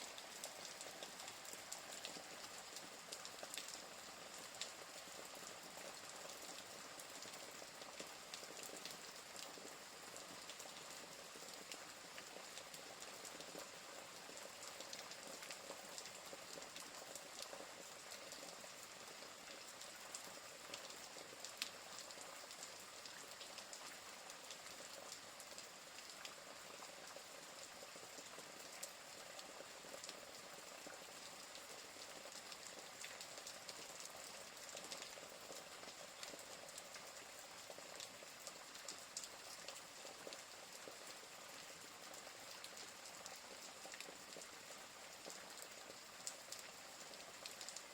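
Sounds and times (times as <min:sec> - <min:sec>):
faint rain hiss: 0:00.0 - 0:47.9.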